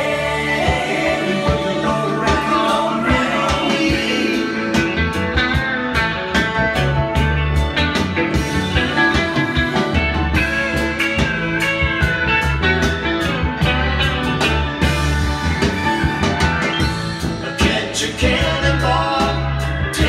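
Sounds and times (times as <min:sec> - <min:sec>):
rock song over speakers: 0:00.0 - 0:20.0.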